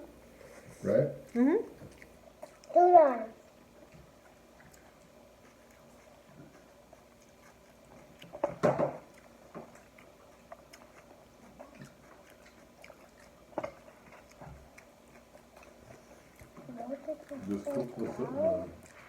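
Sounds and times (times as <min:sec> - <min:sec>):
chewing and biting: 0:01.2 - 0:19.0.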